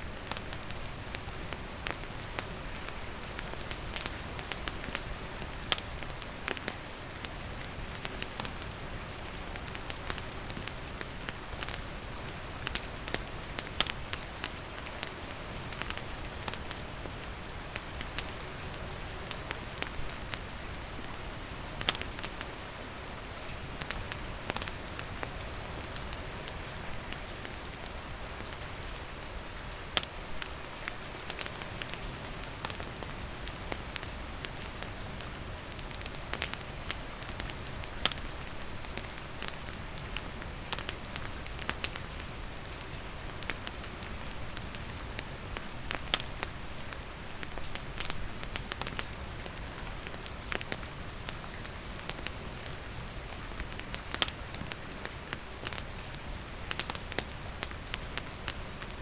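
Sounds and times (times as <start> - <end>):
campfire crackling: 0.0 - 59.0
rain falling on surfaces: 0.0 - 59.0.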